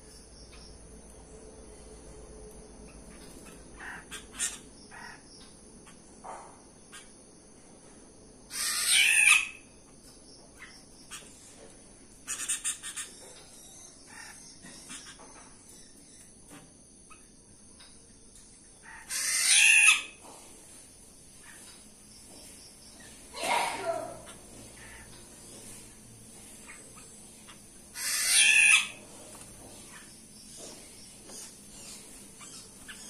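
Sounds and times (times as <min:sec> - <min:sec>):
cricket trill: 0:00.0 - 0:33.0.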